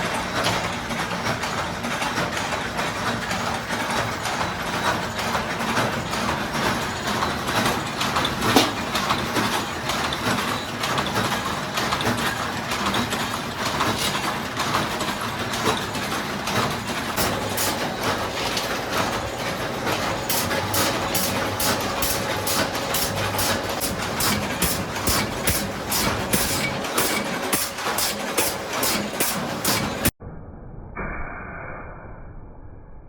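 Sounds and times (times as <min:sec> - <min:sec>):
factory machinery din: 0:04.7 - 0:31.3.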